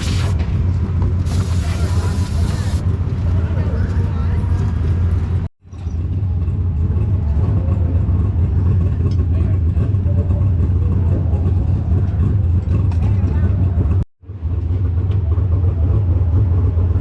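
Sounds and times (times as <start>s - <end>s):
race car engine rumbling: 0.0s - 17.0s.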